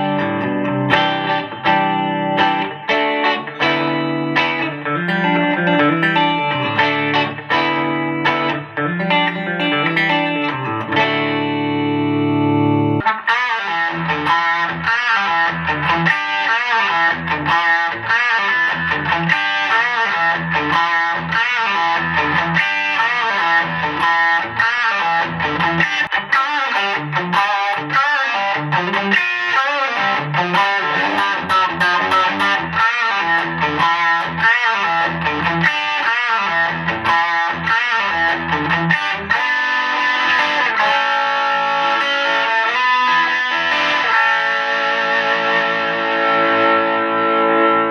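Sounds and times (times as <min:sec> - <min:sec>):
electric guitar through amplifier: 0:00.0 - 0:47.9.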